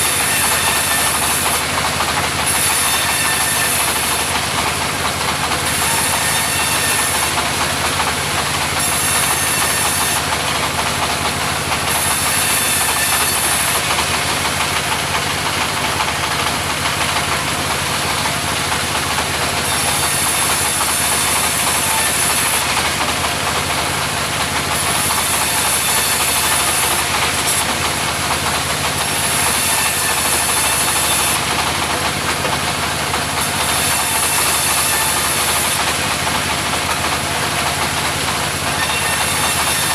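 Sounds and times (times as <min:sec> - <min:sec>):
saw cutting timber whine: 0:00.0 - 0:39.9
sawmill engine running: 0:00.0 - 0:39.9.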